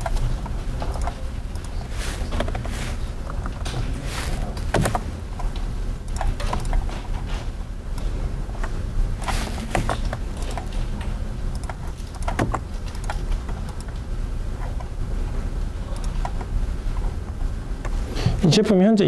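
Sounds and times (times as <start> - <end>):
keyboard typing: 0.0 - 14.9, 15.9 - 18.0
steady low hum: 0.0 - 19.0.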